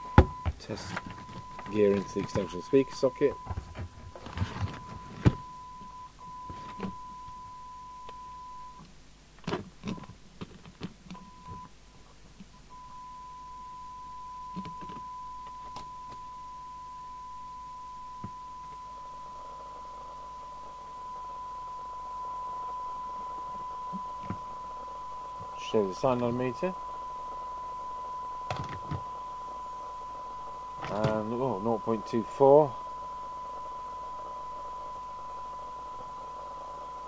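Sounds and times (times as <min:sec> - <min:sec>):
radio test tone: 0:00.0 - 0:08.8, 0:12.7 - 0:37.0.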